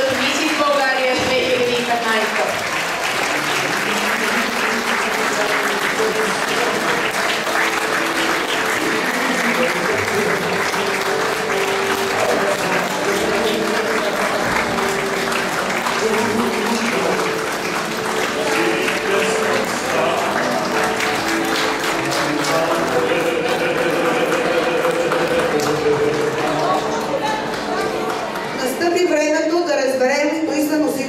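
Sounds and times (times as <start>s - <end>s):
audience applauding: 0.0s - 28.9s
slow background music: 0.0s - 31.0s.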